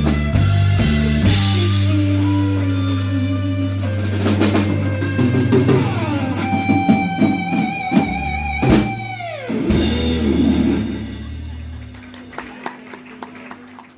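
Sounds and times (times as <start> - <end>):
live rock band playing: 0.0 - 13.9.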